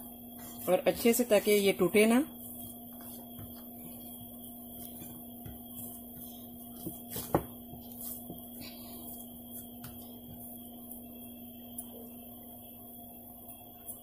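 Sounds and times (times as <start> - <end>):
hand kneading dough in bowl: 0.0 - 12.6
background hum: 0.0 - 14.0.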